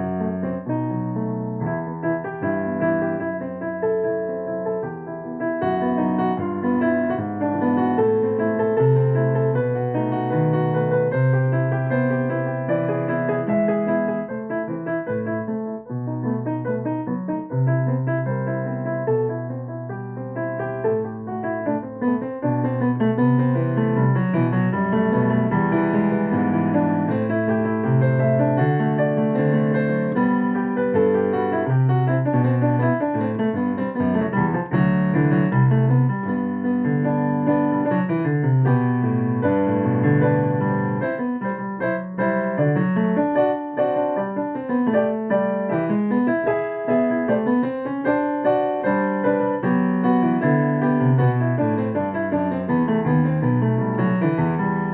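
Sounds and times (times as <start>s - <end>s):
solo piano playing: 0.0s - 54.9s.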